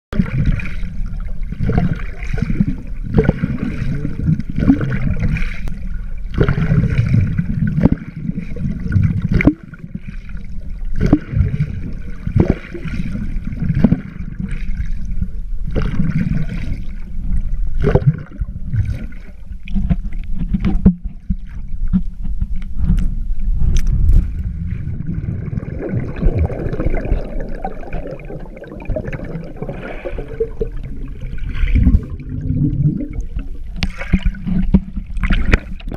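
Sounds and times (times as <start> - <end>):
muffled underwater water sloshing: 0.1 - 35.9
water churning with bubbles: 0.1 - 35.9.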